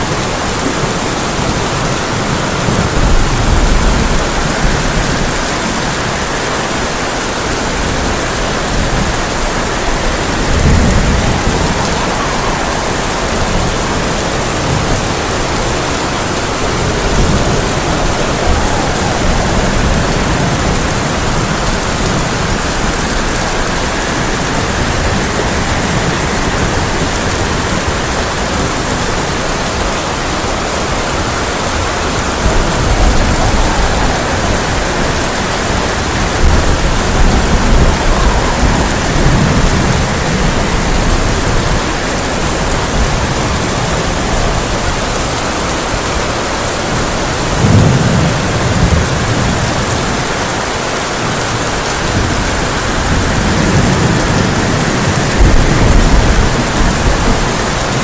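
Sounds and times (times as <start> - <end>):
heavy rain on a tin roof: 0.0 - 58.0
thunder rumbling: 0.0 - 58.0.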